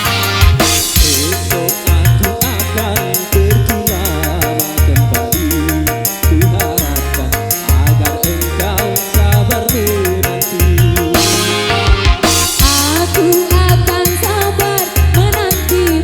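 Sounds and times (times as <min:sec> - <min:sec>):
drum and bass pattern: 0:00.0 - 0:16.0
lead melody with bends and trills: 0:00.0 - 0:16.0.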